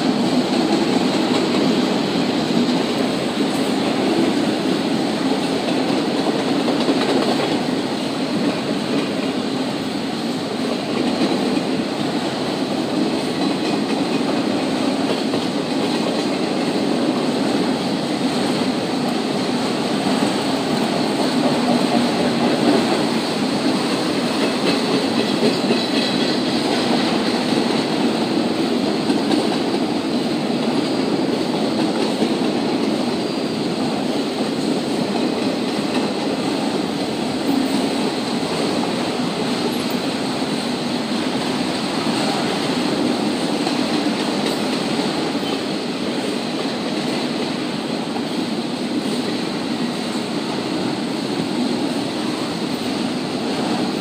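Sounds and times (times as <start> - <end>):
freight train rumbling past: 0.0 - 54.0
steel wheels on rails: 0.0 - 54.0.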